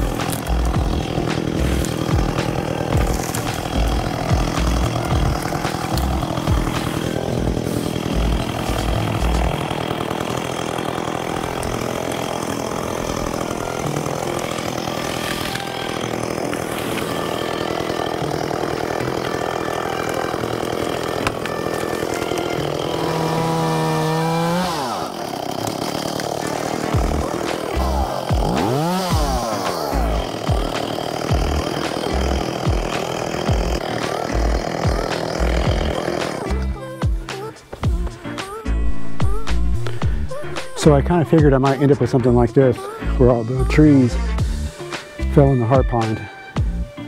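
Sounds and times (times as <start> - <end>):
chainsaw cutting tree limbs: 0.0 - 47.0.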